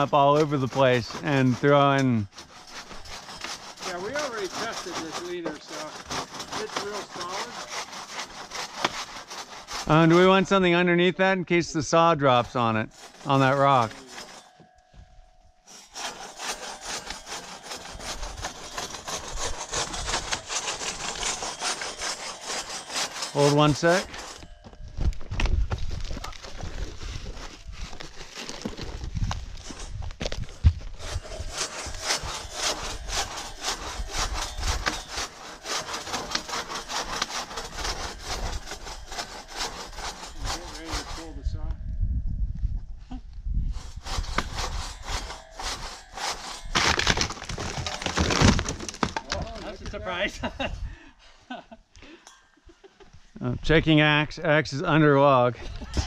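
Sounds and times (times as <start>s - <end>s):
saw cutting through log: 0.0s - 14.8s, 15.6s - 41.9s, 43.6s - 50.7s.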